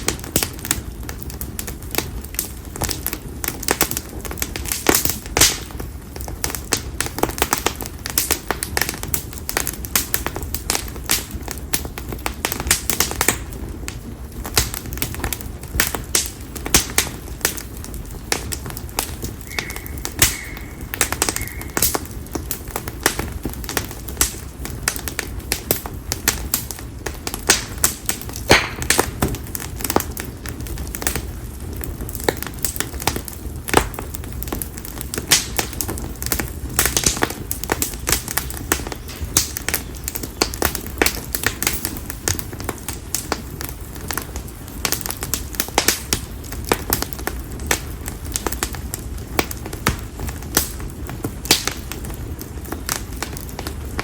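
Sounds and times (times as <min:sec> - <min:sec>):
bonfire crackling and popping: 0:00.0 - 0:54.0
flames rushing: 0:00.0 - 0:54.0.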